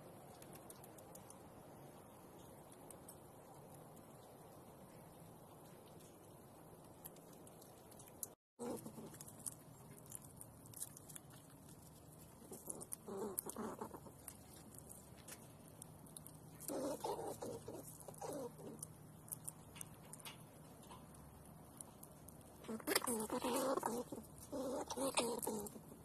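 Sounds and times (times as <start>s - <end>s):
squirrel chewing seeds clicks: 0.0s - 4.8s, 5.5s - 26.0s.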